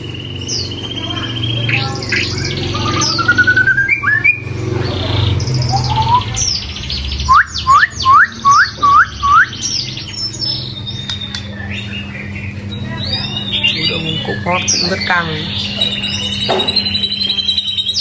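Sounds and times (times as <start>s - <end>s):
bird singing whistles and trills: 0.1s - 4.5s, 5.4s - 18.0s.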